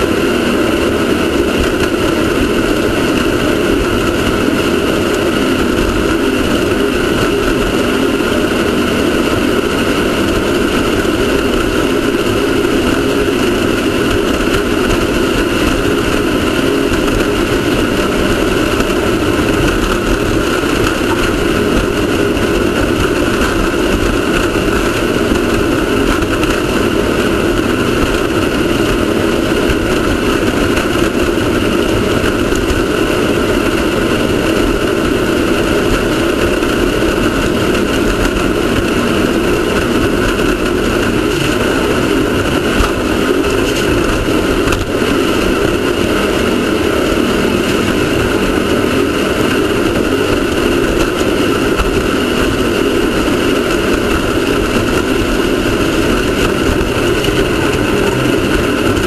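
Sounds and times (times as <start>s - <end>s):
race car engine droning: 0.0s - 59.0s.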